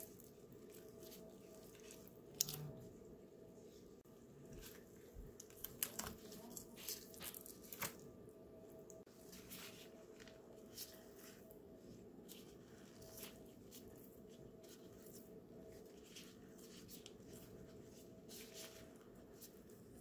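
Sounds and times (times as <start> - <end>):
faint steady hum: 0.0 - 20.0
plastic gloves crinkling: 0.0 - 20.0.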